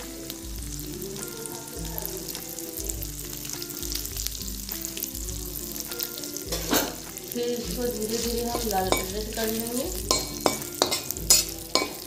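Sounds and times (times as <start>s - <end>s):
background music: 0.0s - 12.0s
chillies sizzling in hot oil: 0.0s - 12.0s.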